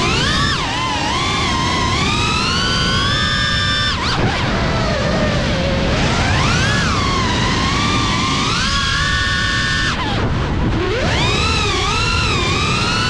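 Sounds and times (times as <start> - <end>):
drone motors and propellers whining: 0.0 - 13.0.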